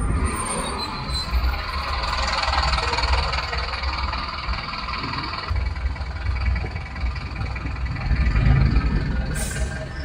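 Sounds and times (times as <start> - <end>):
car engine and exhaust rumble: 0.0 - 10.0.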